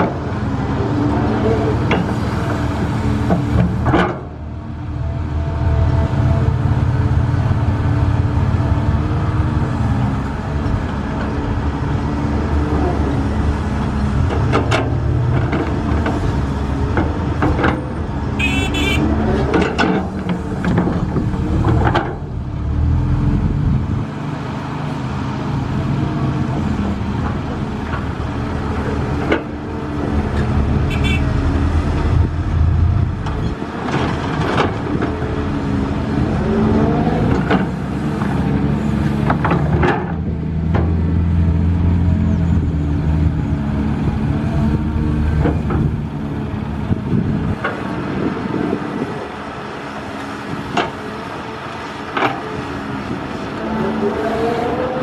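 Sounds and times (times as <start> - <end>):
heavy diesel engines working: 0.0 - 55.0.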